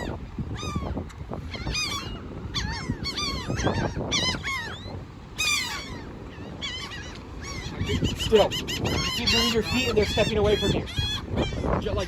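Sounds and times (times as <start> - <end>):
gulls calling: 0.0 - 12.0
low rumble of wind or traffic: 0.0 - 12.0.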